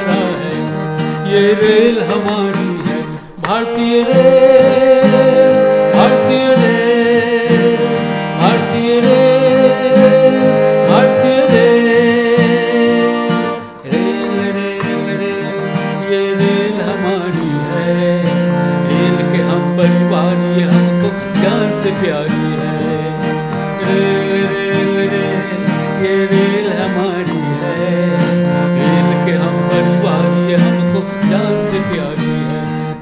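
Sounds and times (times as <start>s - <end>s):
steady held tones: 0.0s - 33.0s
string instruments melody: 0.0s - 33.0s.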